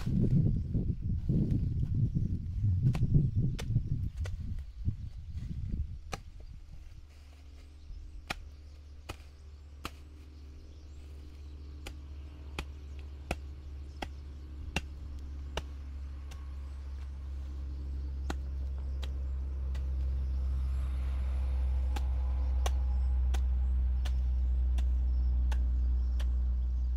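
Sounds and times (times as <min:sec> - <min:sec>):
low steady hum: 0:00.0 - 0:26.9
hand tool chopping soil: 0:02.8 - 0:04.7, 0:06.0 - 0:07.2, 0:08.1 - 0:26.9.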